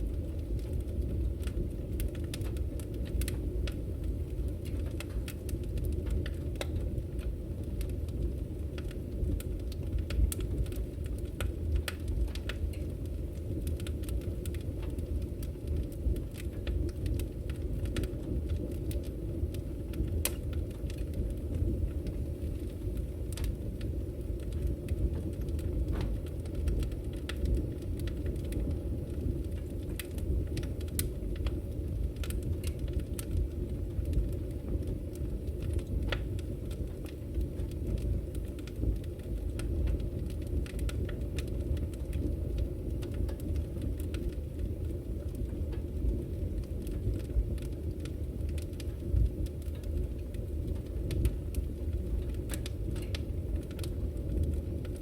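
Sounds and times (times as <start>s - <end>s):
wood fire crackling and roaring: 0.0s - 55.0s.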